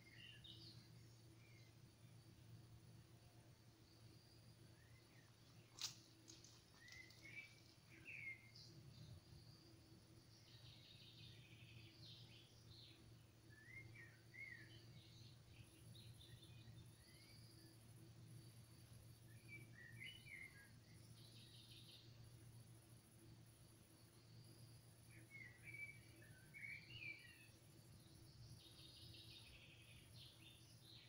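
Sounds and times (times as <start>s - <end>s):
faint bird chirps: 0.0s - 22.8s, 24.0s - 31.0s
low steady hum: 0.0s - 31.0s.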